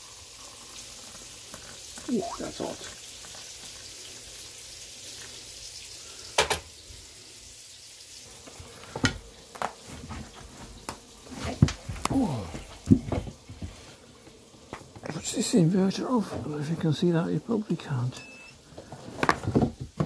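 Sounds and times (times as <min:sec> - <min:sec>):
hot water pouring into mug: 0:00.0 - 0:19.0.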